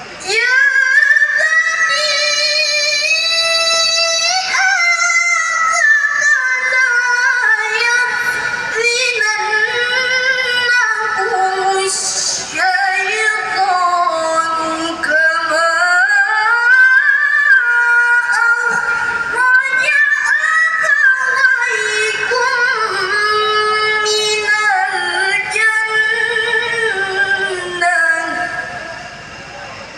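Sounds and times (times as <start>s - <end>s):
woman reciting melodically: 0.0s - 29.2s.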